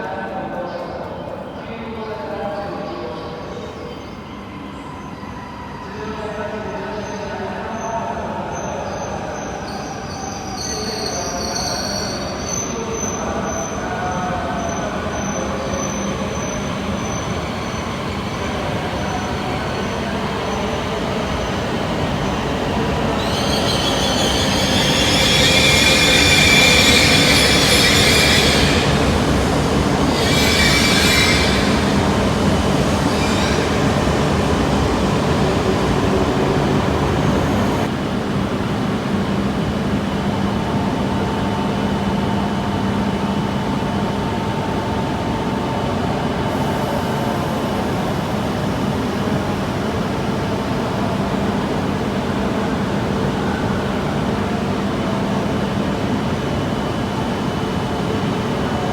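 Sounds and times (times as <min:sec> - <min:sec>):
train moving slowly: 0:00.0 - 0:58.9
high train squeal: 0:01.2 - 0:37.9, 0:40.4 - 0:52.1.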